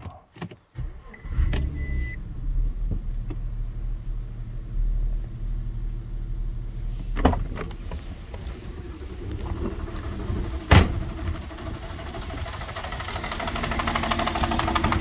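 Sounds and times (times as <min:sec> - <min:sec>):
misfiring engine idling: 0:00.8 - 0:15.0.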